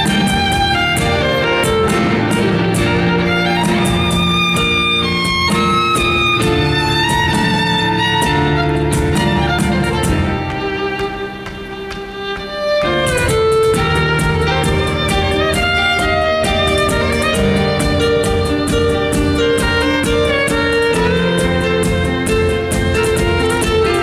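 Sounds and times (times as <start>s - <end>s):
drum beat: 0.0s - 24.0s
electronic backing track: 0.0s - 24.0s
violin melody: 0.0s - 24.0s.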